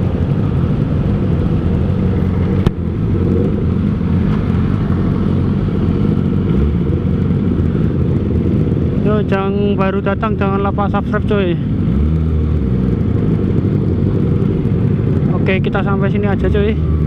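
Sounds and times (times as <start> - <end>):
motorcycle engine running at low revs: 0.0 - 17.0.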